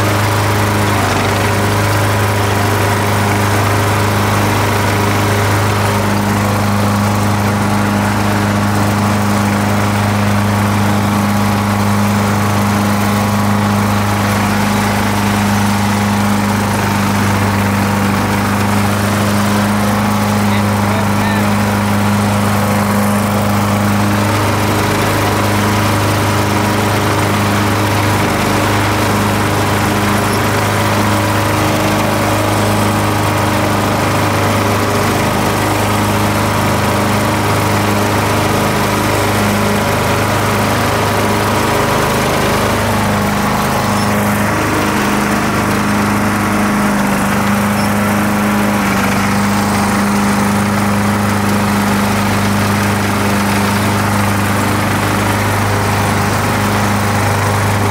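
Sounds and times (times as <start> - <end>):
riding lawn mower engine running: 0.0 - 57.9.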